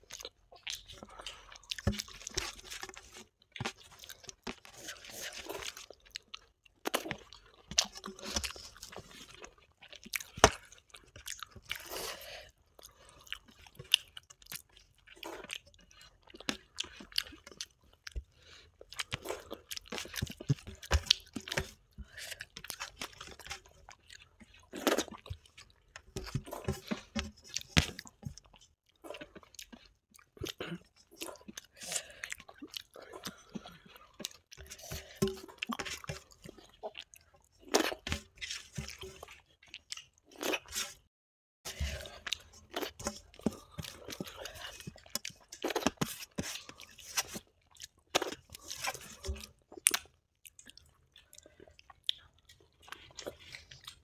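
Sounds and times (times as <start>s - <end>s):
people chewing and crunching: 0.0s - 41.1s, 41.7s - 54.0s.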